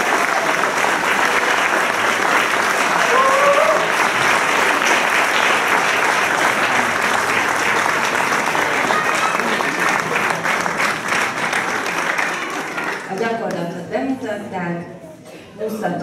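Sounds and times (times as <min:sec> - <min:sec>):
audience applauding: 0:00.0 - 0:13.6
voice from the crowd: 0:00.0 - 0:16.0.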